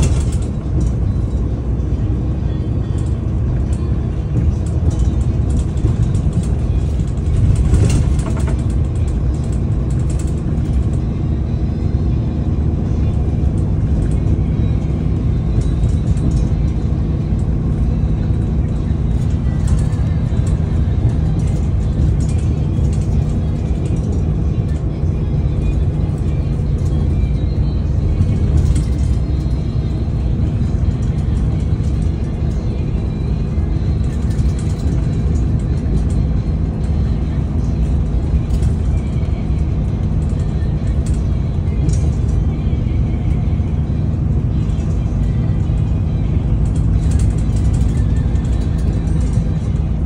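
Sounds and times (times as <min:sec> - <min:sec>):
bus engine running: 0:00.0 - 0:50.0.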